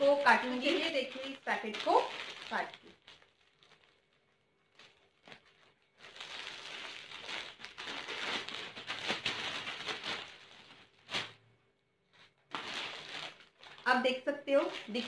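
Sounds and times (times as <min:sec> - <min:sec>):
plastic mailer bag crinkling: 0:00.0 - 0:11.5, 0:12.2 - 0:15.0.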